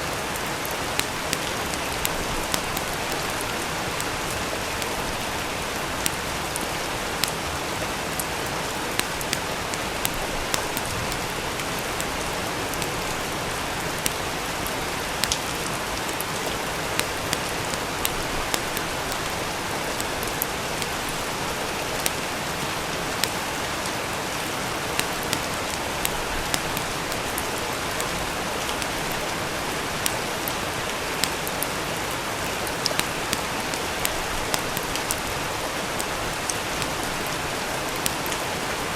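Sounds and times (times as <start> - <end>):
rain pattering: 0.0 - 38.9
wood fire crackling: 0.1 - 38.9.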